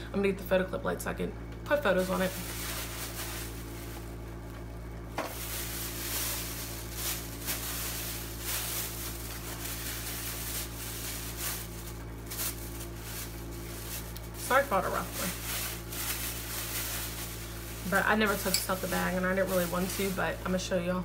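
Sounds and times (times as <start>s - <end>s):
bag rustling and crinkling: 1.9s - 20.4s.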